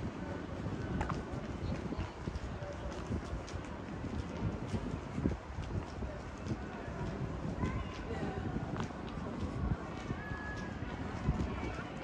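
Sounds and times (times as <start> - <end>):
faint background voices: 0.0 - 12.0
wind buffeting microphone: 0.0 - 12.0.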